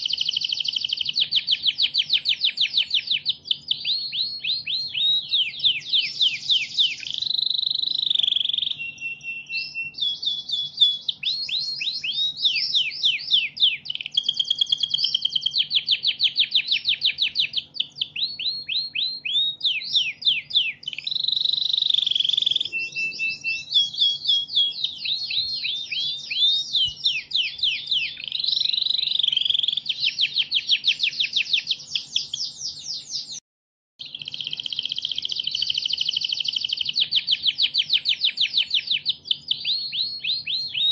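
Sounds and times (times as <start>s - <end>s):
songbird singing: 0.0s - 33.4s, 34.0s - 40.9s.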